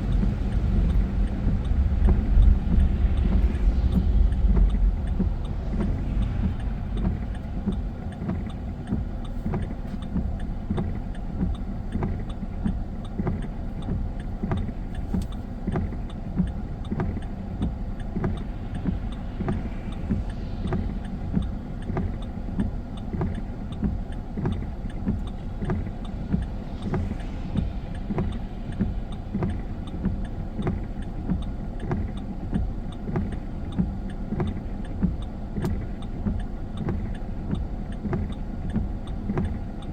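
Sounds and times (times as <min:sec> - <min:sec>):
regular ticking: 0:00.0 - 0:39.9
road and engine rumble: 0:00.0 - 0:39.9.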